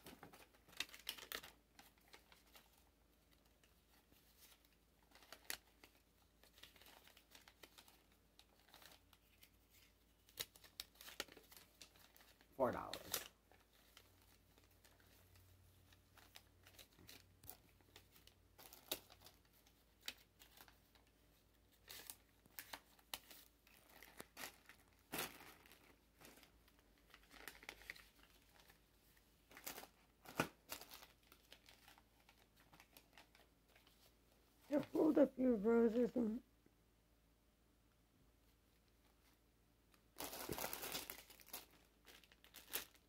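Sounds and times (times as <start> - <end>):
candy wrappers crinkling: 0.0 - 36.3, 40.0 - 43.0.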